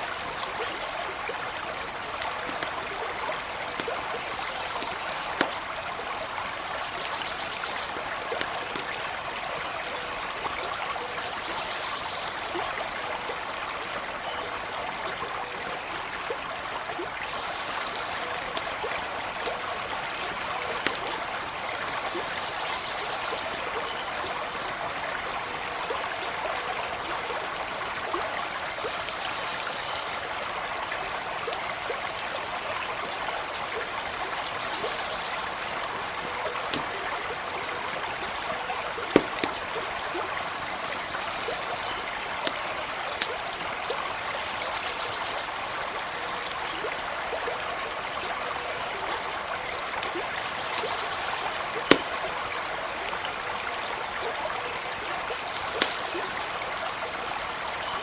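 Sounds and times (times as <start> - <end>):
campfire crackling and popping: 0.0 - 11.2, 12.2 - 28.5, 30.2 - 48.2, 48.9 - 57.8
small stream trickling: 0.0 - 58.0.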